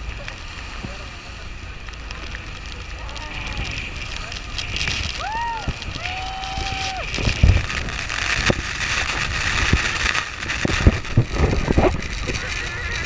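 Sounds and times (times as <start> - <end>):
waterfall roaring: 0.0 - 13.0
wind buffeting microphone: 0.0 - 13.0.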